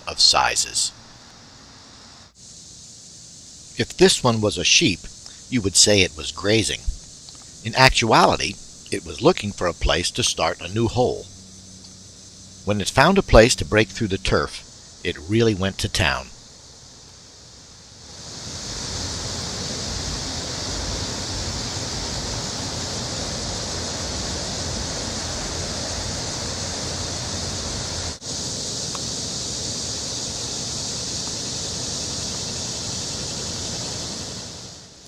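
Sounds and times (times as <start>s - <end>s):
cicadas buzzing: 0.0s - 35.0s.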